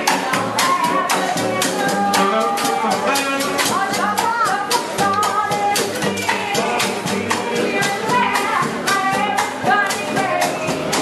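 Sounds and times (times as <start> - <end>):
fast percussion beat: 0.0 - 11.0
street band playing up-tempo music: 0.0 - 11.0.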